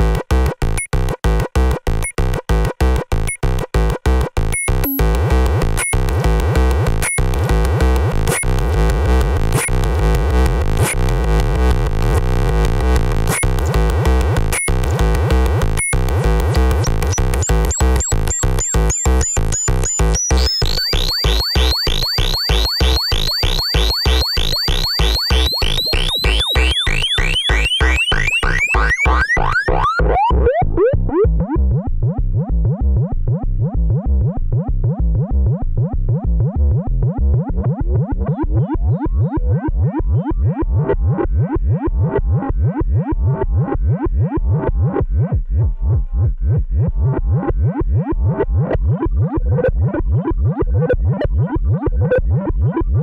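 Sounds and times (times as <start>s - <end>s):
synthesizer bass sequence: 0.0s - 53.0s.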